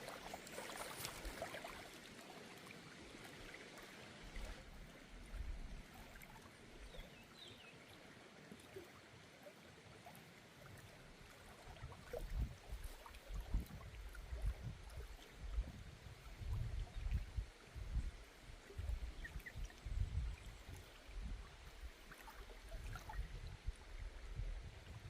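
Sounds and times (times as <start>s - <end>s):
faint flowing river: 0.0s - 25.0s.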